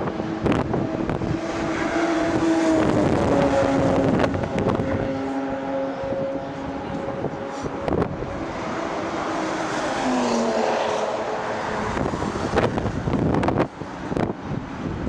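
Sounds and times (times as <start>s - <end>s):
wind buffeting the microphone: 0.0s - 9.9s, 11.2s - 15.0s
sports car engine passing at speed: 0.0s - 15.0s.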